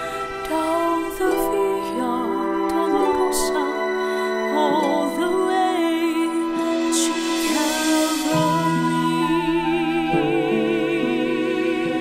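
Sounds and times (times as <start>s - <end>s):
choir singing slow notes: 0.0s - 12.0s
held accompaniment chords: 0.0s - 12.0s.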